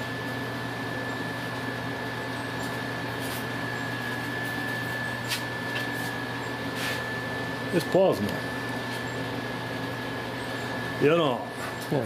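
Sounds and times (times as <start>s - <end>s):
electrical hum with whine: 0.0s - 12.0s.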